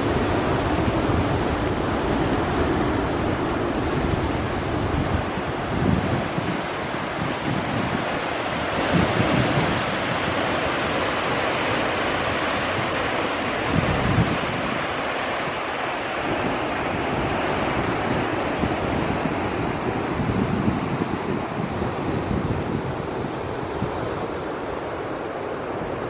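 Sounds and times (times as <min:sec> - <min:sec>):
ocean surf washing: 0:00.0 - 0:26.0
wind buffeting microphone: 0:00.0 - 0:26.0.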